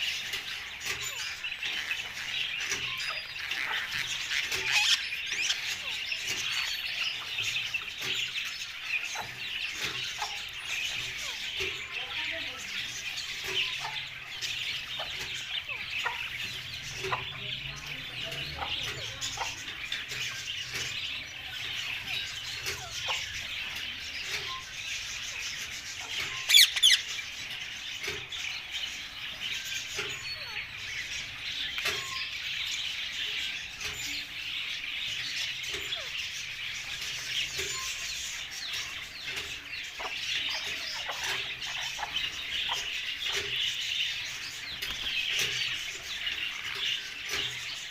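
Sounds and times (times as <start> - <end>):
birds chirping and chattering: 0.0 - 47.9.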